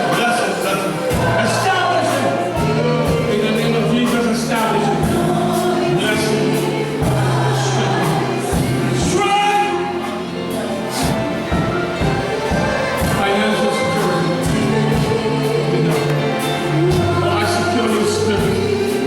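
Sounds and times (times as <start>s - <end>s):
choir singing: 0.0s - 19.0s
drum beats: 0.0s - 19.0s
bass line: 0.8s - 19.0s.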